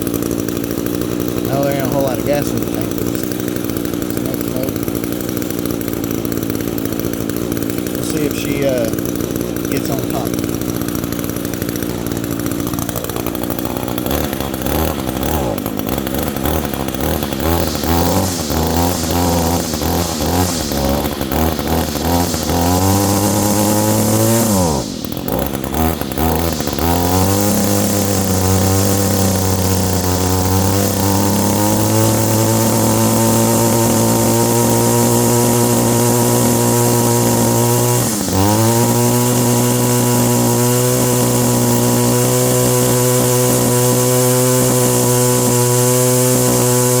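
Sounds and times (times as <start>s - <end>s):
string trimmer engine revving: 0.0s - 47.0s.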